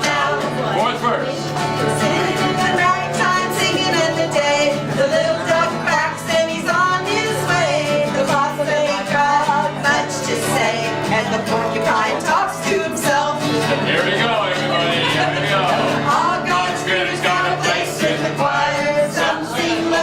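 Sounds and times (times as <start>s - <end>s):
guitar accompaniment: 0.0s - 20.0s
person singing country song: 0.0s - 20.0s.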